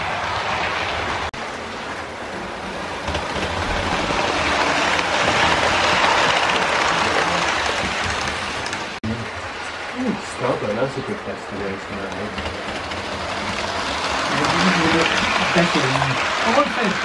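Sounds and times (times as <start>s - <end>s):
model trains whirring and rattling: 0.0s - 17.0s.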